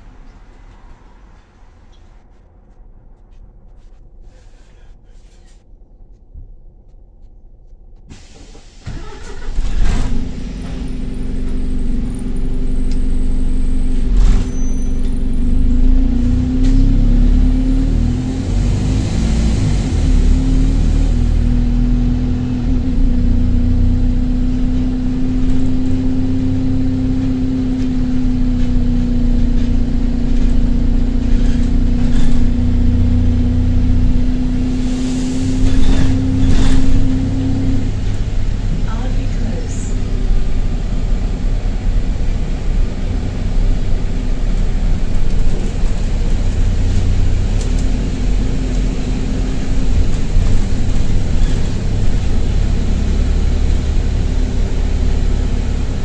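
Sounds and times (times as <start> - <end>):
bus engine droning: 0.0 - 6.1, 8.0 - 56.0.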